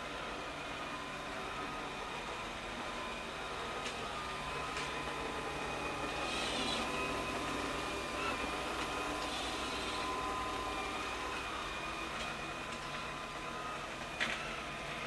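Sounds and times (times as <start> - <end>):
robot vacuum motor hum: 0.1 - 15.0.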